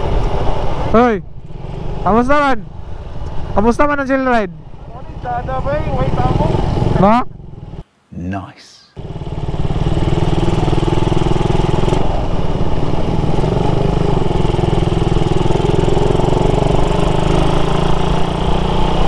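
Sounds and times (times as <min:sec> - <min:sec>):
motorcycle engine running: 0:00.0 - 0:07.8, 0:09.0 - 0:19.0.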